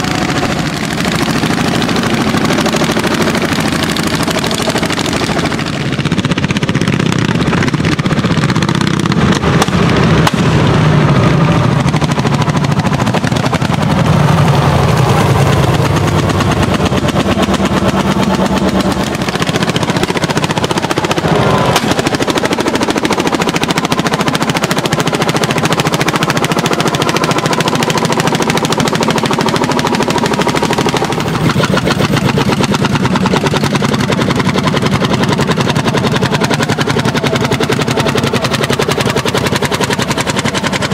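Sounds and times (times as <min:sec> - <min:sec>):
tractor engine popping exhaust: 0:00.0 - 0:40.9.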